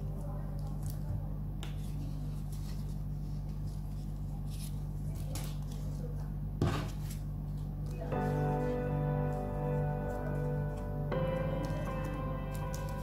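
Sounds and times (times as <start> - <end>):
steady low hum: 0.0 - 13.0
paper and plastic rustling: 0.2 - 10.8, 11.5 - 13.0.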